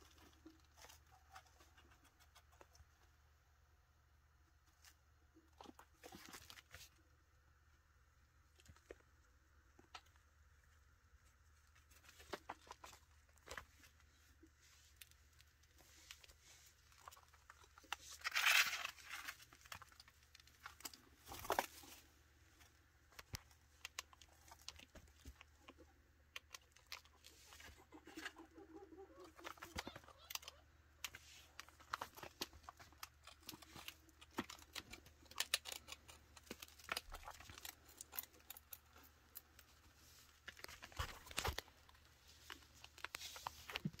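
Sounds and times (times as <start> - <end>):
rustling: 0.0 - 44.0
chinchilla gnawing: 8.4 - 44.0.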